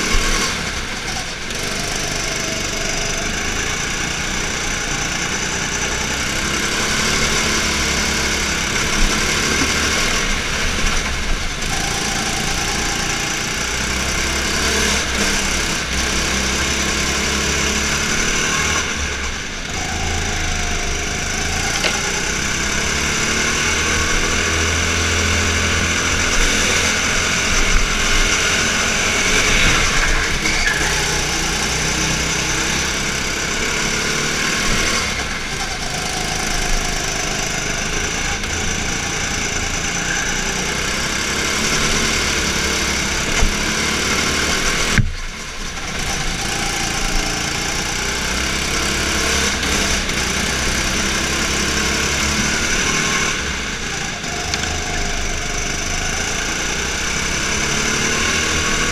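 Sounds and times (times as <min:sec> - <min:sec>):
go-kart engine running hard: 0:00.0 - 0:58.9.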